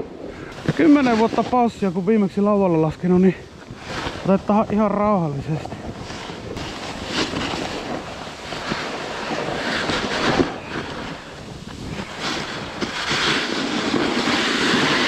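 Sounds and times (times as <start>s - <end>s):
snowboard scraping on snow: 0.0s - 15.0s
wind buffeting microphone: 0.0s - 15.0s.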